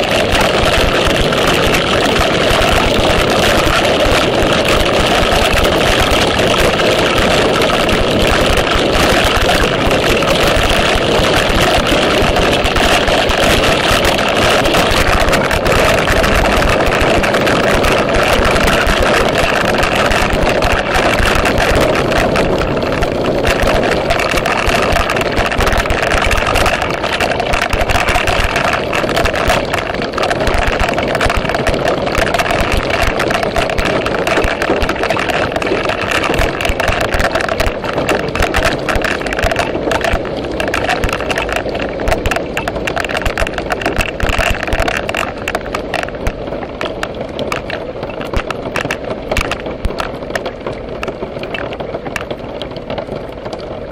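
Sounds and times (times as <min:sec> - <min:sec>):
heavy rain on hard surfaces: 0:00.0 - 0:53.9.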